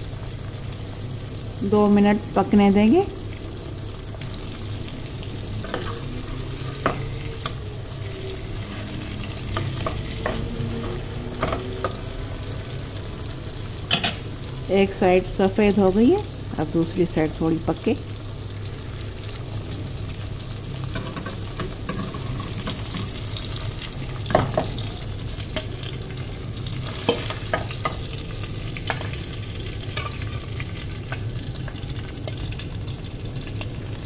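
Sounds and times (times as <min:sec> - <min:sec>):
fish frying in hot oil: 0:00.0 - 0:34.0.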